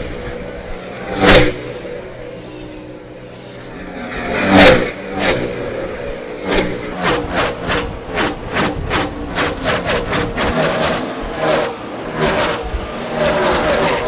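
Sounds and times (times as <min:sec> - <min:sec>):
race cars passing at full throttle: 0:00.0 - 0:14.0.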